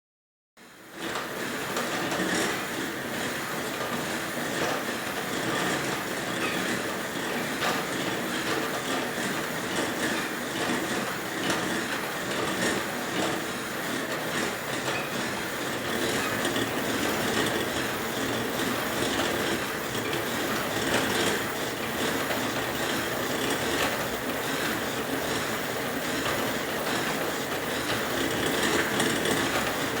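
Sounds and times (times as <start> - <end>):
elliptical trainer clattering and squeaking: 4.6 - 11.8, 12.5 - 30.0.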